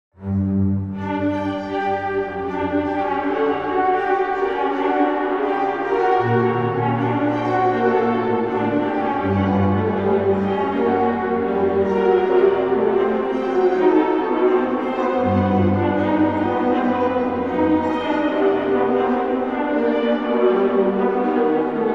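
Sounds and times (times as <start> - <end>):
eerie orchestral music: 0.2 - 21.9.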